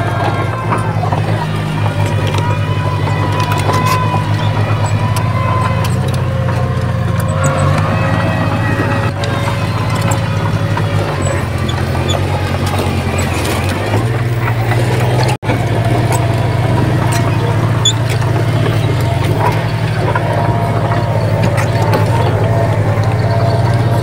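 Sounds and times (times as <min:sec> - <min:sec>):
diesel engine of heavy machinery: 0:00.0 - 0:24.0.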